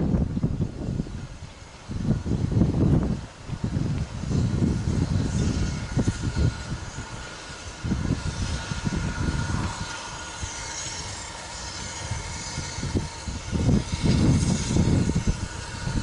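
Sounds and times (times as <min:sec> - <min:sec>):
steam locomotive rumbling: 0:00.0 - 0:16.0
wind on microphone: 0:00.0 - 0:16.0.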